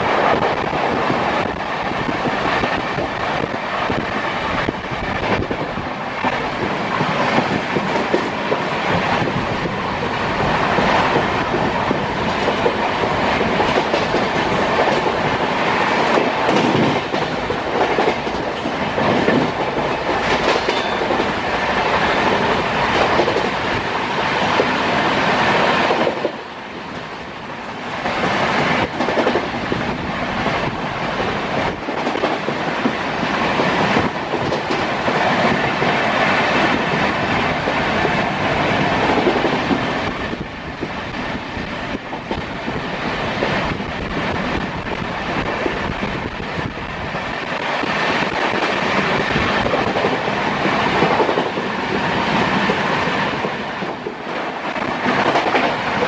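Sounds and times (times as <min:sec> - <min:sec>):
clickety-clack over rail joints: 0:00.0 - 0:56.0
train wheels running on rails: 0:00.0 - 0:56.0.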